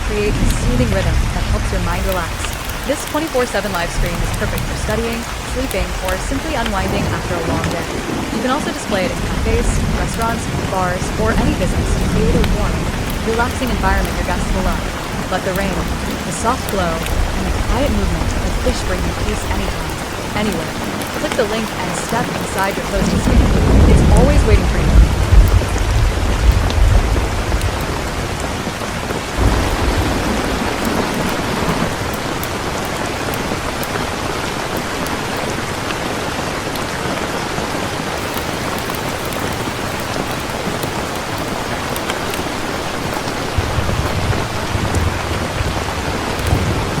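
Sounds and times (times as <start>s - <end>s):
low thunder rumbles: 0.0s - 35.8s, 38.1s - 47.0s
heavy rain: 0.0s - 47.0s.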